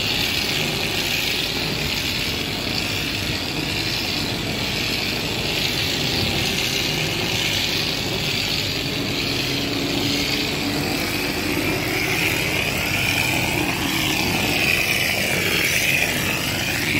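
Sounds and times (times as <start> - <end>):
plaster spray gun hissing: 0.0 - 16.9.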